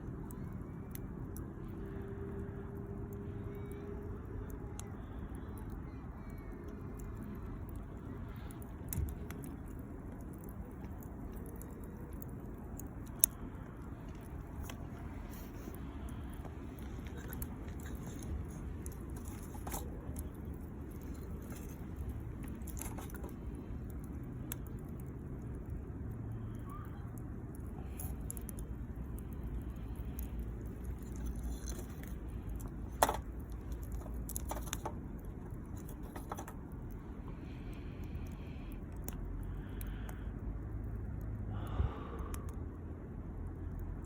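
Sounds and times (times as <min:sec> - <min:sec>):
campfire crackling and popping: 0:00.0 - 0:44.0
low steady rumble: 0:00.0 - 0:44.0.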